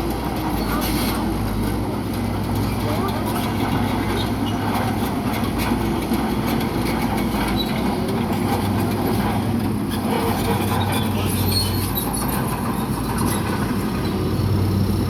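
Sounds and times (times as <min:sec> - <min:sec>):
bulldozer diesel engine running: 0:00.0 - 0:15.0
steel tracks clanking and squeaking: 0:00.1 - 0:14.4.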